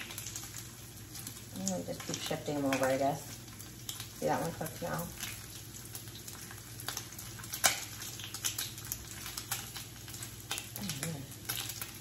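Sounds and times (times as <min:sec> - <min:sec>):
bacon frying with crackles and pops: 0:00.0 - 0:12.0.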